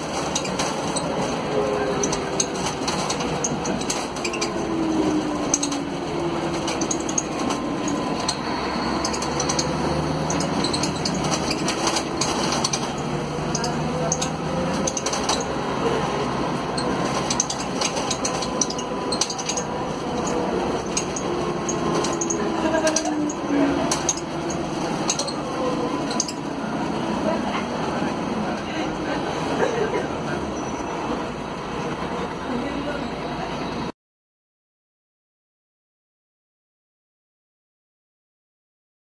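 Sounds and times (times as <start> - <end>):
bus diesel engine drone: 0.0 - 33.9.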